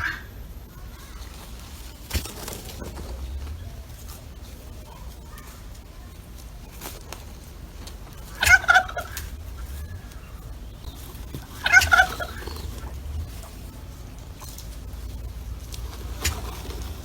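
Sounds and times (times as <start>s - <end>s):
low outdoor rumble: 0.0s - 17.0s
turkey gobbling: 0.0s - 17.0s.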